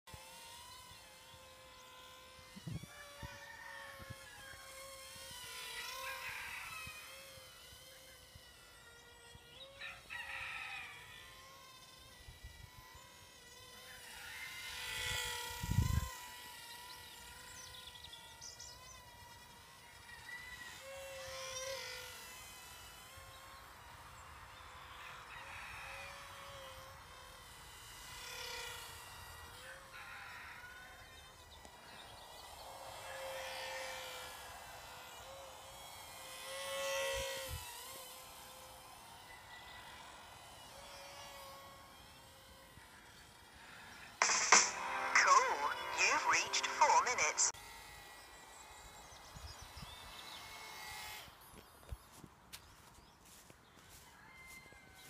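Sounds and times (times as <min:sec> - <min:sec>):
electric motor propeller whining: 0:00.1 - 0:54.0.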